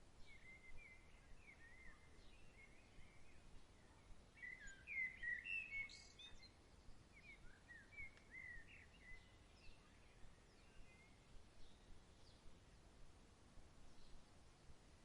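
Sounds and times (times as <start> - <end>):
faint outdoor hiss: 0.0 - 15.0
songbird chirping and warbling: 0.2 - 12.4.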